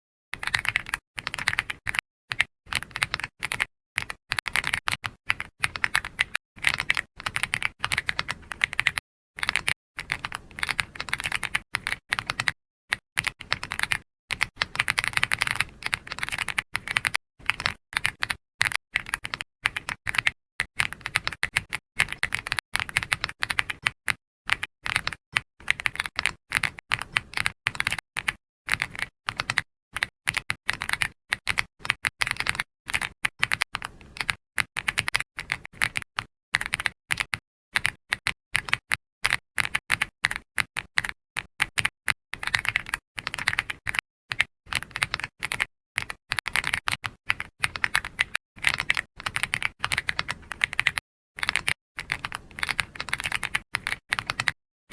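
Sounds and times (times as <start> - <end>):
typing on computer keyboard: 0.4 - 54.6.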